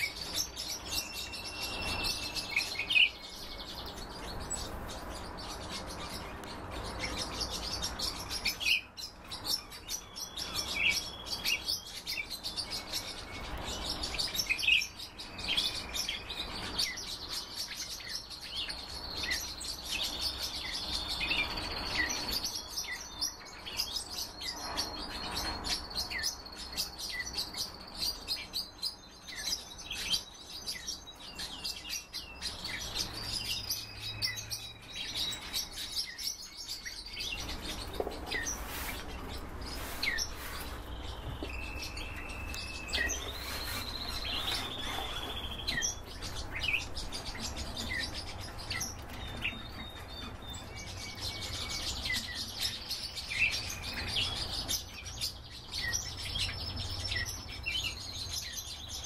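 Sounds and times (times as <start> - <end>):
finches chirping and twittering: 0.0 - 59.0.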